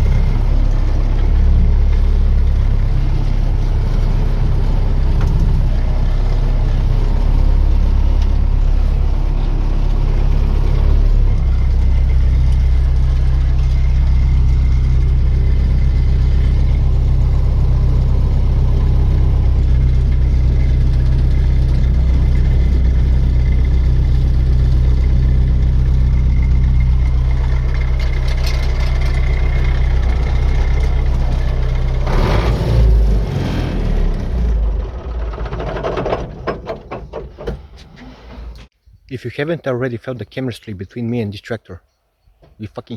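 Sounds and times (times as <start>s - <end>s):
tractor engine running: 0.0s - 38.7s.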